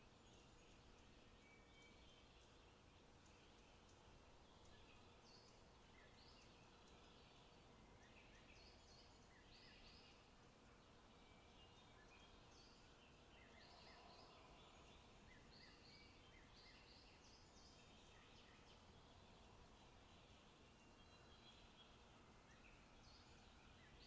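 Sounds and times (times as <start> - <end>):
low steady hiss: 0.0 - 24.0
small birds chirping: 0.0 - 24.0.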